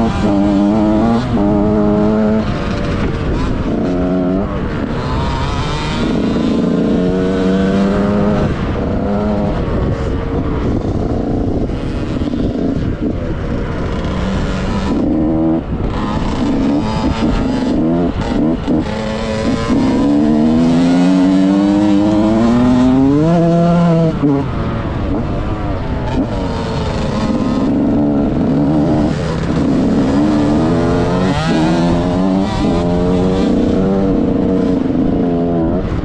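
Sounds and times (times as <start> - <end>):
two-stroke engine revving: 0.0 - 36.0.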